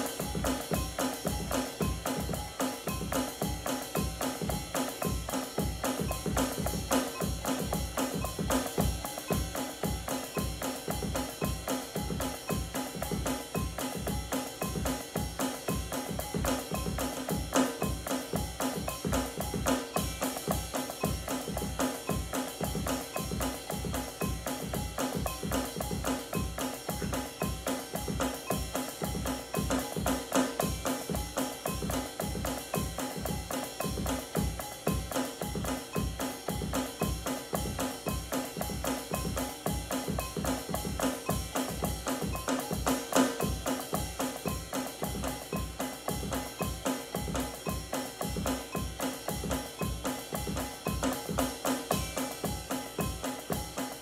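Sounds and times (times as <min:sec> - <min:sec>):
cymbals washing: 0:00.0 - 0:54.0
drum kit groove: 0:00.0 - 0:54.0.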